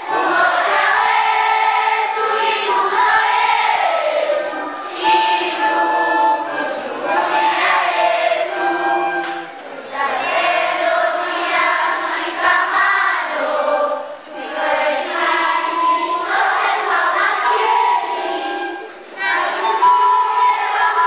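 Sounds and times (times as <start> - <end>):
children singing in chorus: 0.0 - 21.0.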